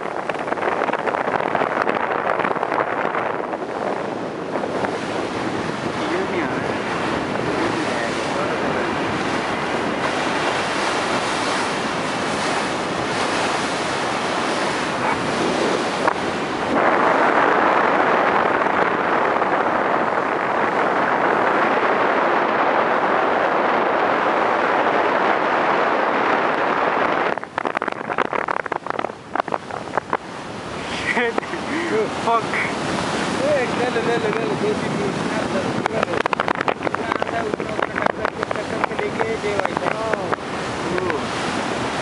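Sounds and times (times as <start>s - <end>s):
sea surf: 0.0s - 42.0s
wind: 0.0s - 42.0s
wind buffeting microphone: 0.0s - 42.0s.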